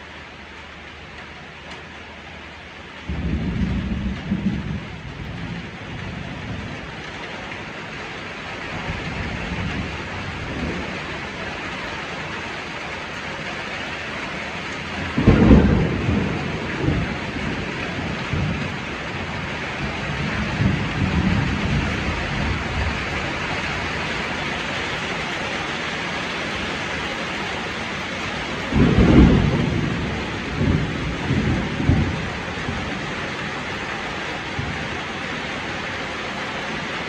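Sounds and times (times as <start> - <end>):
rain falling: 0.0 - 37.0
thunder rumbling: 3.0 - 37.0.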